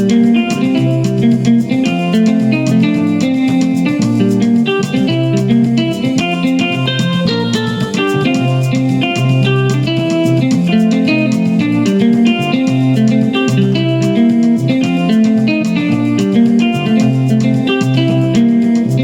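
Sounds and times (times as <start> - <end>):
keyboard bass sound: 0.0 - 19.0
keyboard plucked guitar sound: 0.0 - 19.0.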